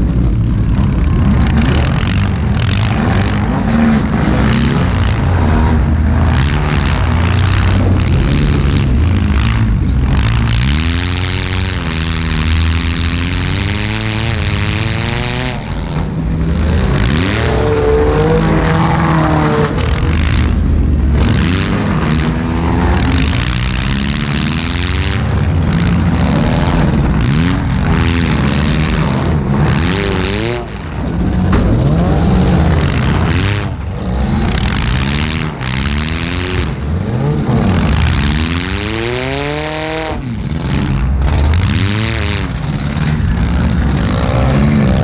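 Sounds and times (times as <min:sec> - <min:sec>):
loud car engine revving: 0:00.0 - 0:45.0.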